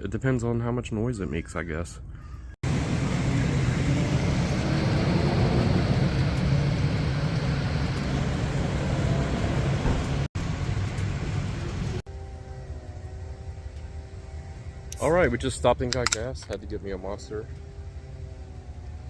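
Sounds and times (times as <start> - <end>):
motorcycle engine running: 2.6 - 19.0.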